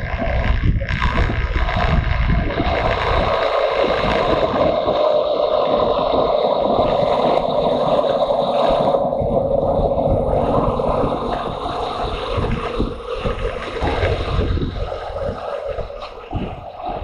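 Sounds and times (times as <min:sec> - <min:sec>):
motorcycle engine droning: 0:00.0 - 0:17.0
wind rushing over microphone: 0:00.0 - 0:17.0.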